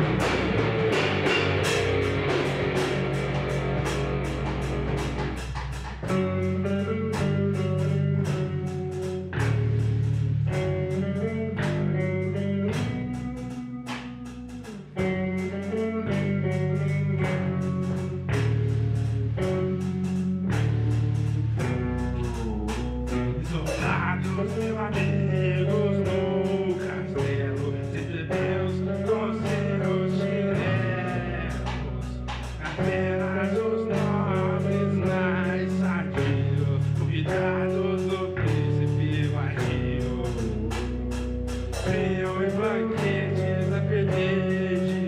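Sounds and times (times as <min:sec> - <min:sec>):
electric guitar lead line bending: 0:00.0 - 0:45.0
heavy metal song: 0:00.0 - 0:45.0.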